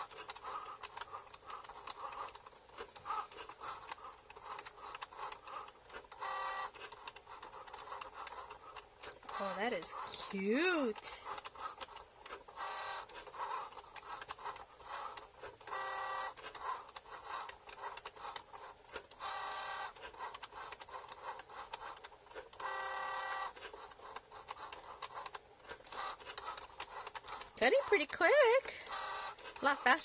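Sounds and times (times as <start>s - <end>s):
cutting machine motors whirring: 0.0s - 30.0s
fast clicking and ticking: 0.0s - 30.0s.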